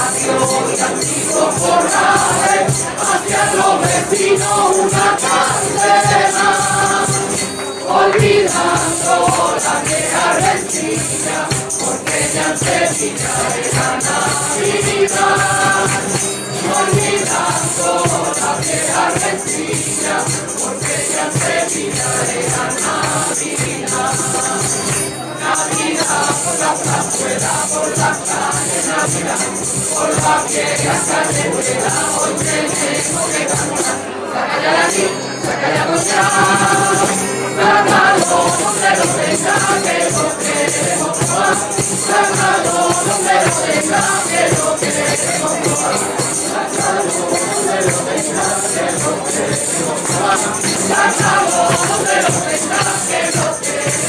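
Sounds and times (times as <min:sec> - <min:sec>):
cajon drum: 0:00.0 - 0:54.0
group of voices singing in chorus: 0:00.0 - 0:54.0
jingling tambourine: 0:00.0 - 0:54.0
strummed acoustic guitars: 0:00.0 - 0:54.0
hand claps: 0:00.2 - 0:33.9, 0:37.9 - 0:54.0.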